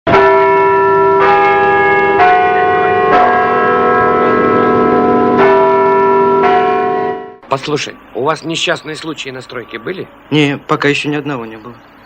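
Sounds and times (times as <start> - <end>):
bells ringing: 0.1 - 12.0.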